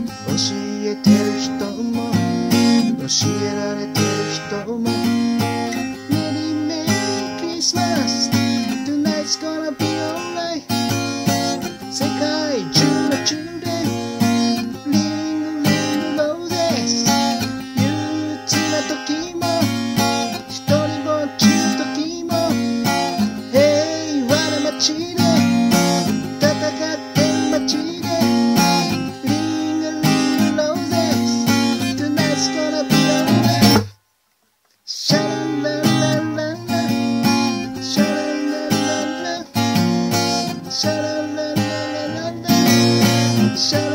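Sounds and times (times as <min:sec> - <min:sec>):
acoustic guitar strumming: 0:00.0 - 0:34.1, 0:34.9 - 0:43.9.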